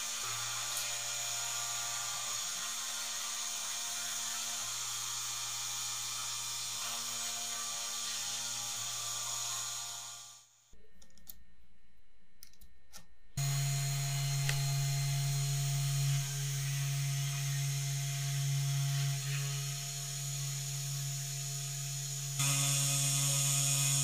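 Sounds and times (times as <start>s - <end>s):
power tool motor humming: 0.0s - 10.5s, 13.4s - 24.0s.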